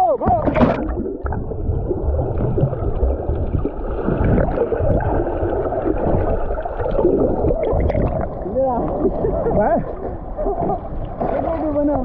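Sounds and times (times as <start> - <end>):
underwater gurgling and churning: 0.0 - 12.0.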